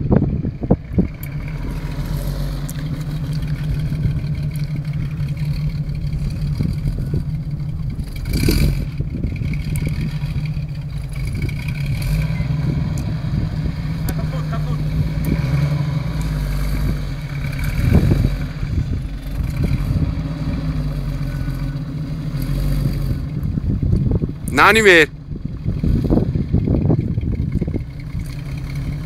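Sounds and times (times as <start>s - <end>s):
car engine running low: 0.0s - 29.0s.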